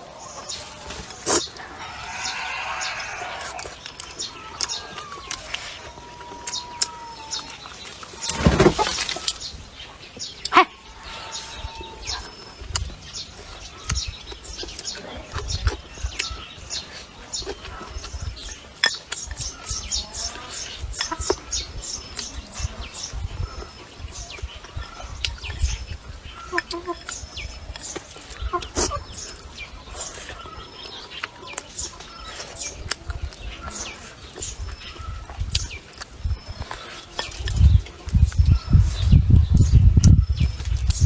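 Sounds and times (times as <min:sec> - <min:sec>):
chickens clucking: 0:00.0 - 0:41.0
small birds chirping: 0:00.0 - 0:41.0.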